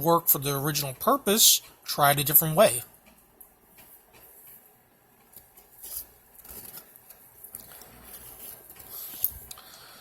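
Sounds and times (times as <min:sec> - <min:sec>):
low room noise: 0:00.0 - 0:10.0.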